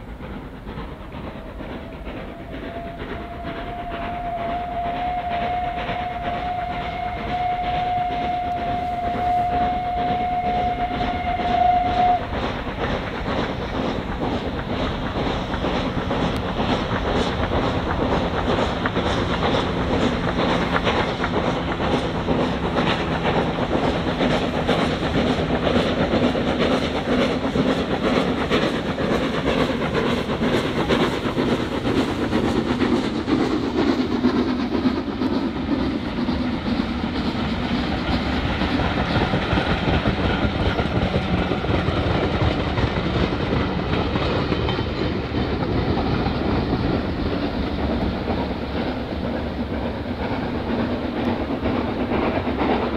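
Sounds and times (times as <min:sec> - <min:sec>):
steam locomotive exhaust beat: 0:00.0 - 0:52.9
train wheels clattering on rails: 0:00.0 - 0:52.9.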